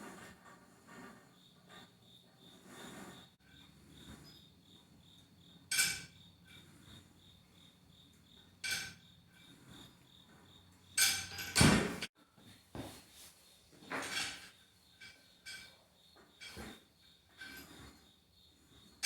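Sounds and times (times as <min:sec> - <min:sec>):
cricket chirping: 0:01.2 - 0:11.9, 0:14.2 - 0:19.0.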